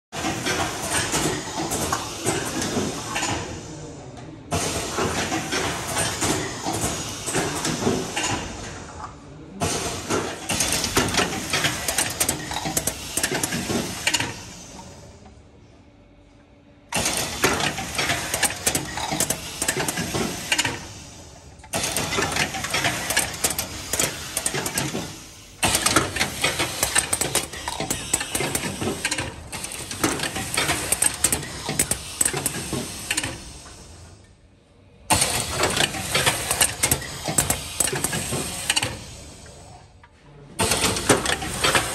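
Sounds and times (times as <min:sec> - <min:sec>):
machine rapid clicking and clattering: 0:00.2 - 0:03.5, 0:04.6 - 0:08.8, 0:09.6 - 0:14.6, 0:16.9 - 0:33.8, 0:35.1 - 0:39.2, 0:40.6 - 0:41.9.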